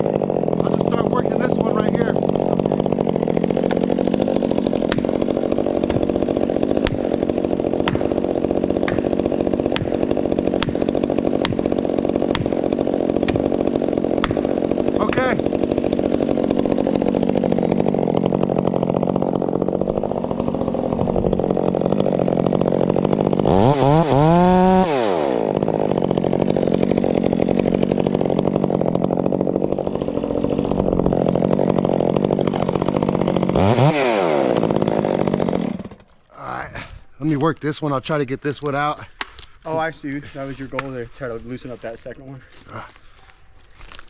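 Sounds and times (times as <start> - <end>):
chainsaw running and revving: 0.0 - 37.0.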